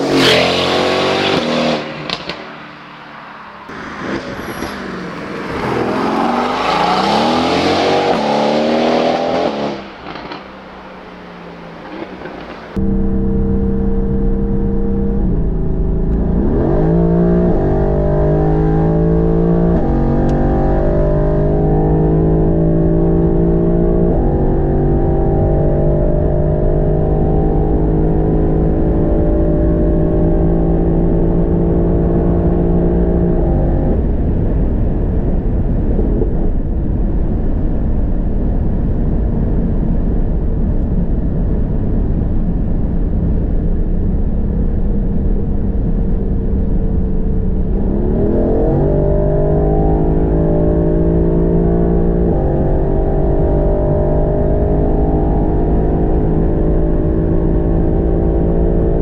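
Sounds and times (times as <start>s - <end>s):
car engine accelerating hard: 0.0s - 36.6s, 39.7s - 59.0s
wind and road noise: 0.0s - 59.0s.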